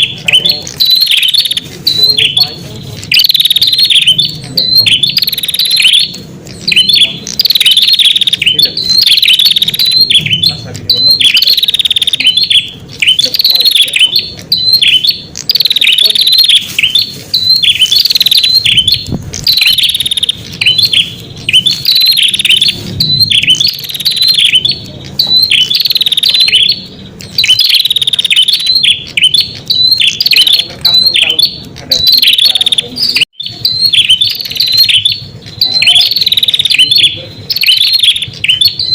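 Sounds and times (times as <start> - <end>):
bird rapid high chirping: 0.0 - 38.9.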